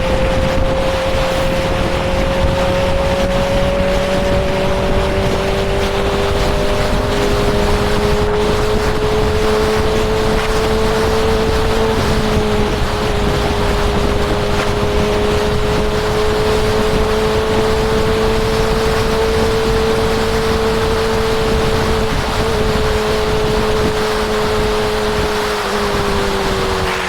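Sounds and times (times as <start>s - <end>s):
motorcycle engine droning: 0.0s - 27.0s
wind and road noise: 0.0s - 27.0s.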